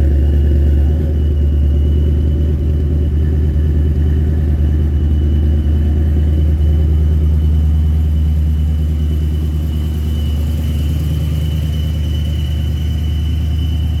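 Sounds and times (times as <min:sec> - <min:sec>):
car exhaust rumbling at idle: 0:00.0 - 0:14.0.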